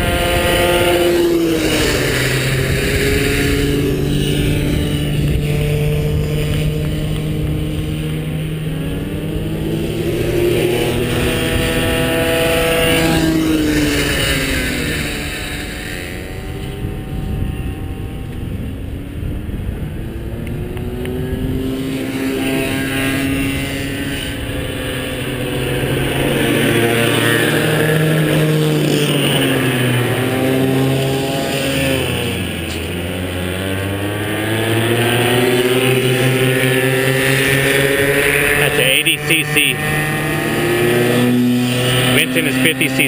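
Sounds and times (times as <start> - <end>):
small two-stroke kart engines buzzing: 0.0 - 43.0.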